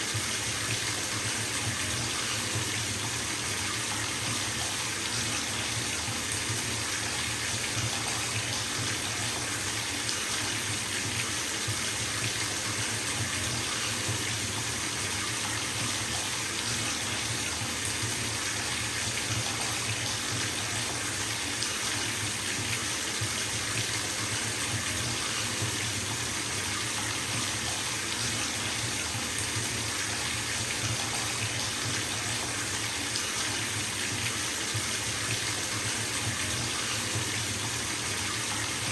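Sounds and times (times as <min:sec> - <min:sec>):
water gushing into bathtub: 0:00.0 - 0:38.9.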